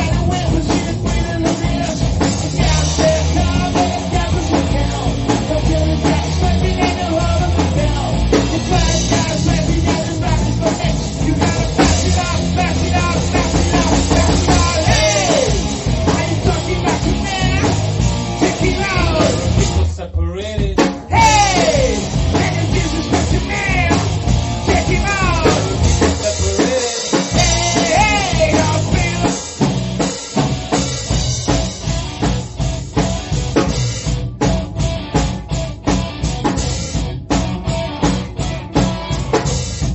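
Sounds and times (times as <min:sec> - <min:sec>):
drum kit: 0:00.0 - 0:39.9
rock band playing: 0:00.0 - 0:39.9.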